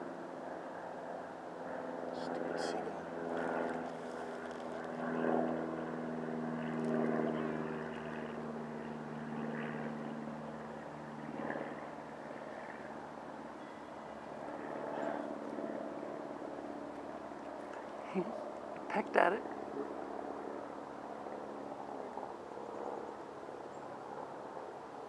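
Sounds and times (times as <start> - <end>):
distant engine droning: 0.0 - 25.0.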